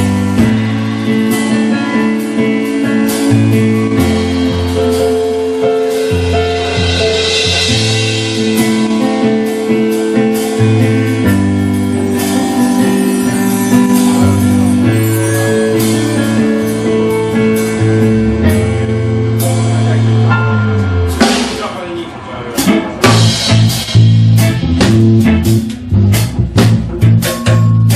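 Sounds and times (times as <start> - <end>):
deep bass line: 0.0 - 27.9
held chords: 0.0 - 27.9.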